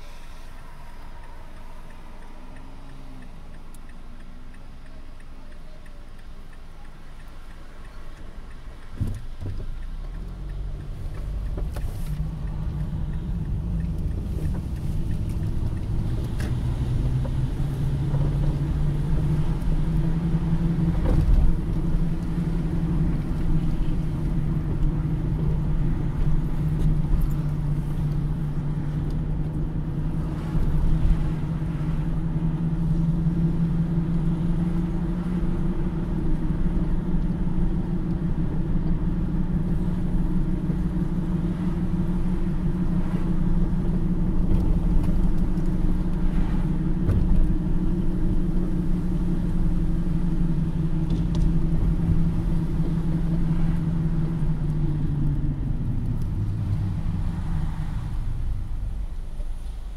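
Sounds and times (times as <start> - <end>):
car engine hum: 0.0 - 59.9
road rumble: 0.0 - 59.9.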